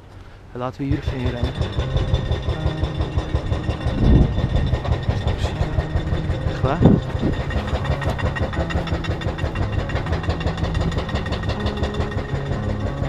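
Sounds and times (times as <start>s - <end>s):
vehicle engine chugging: 0.8s - 13.0s.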